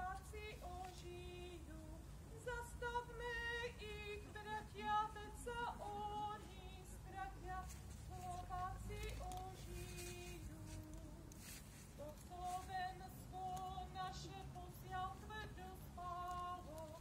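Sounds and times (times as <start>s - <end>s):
woman singing over loudspeakers: 0.0s - 11.4s, 12.0s - 17.0s.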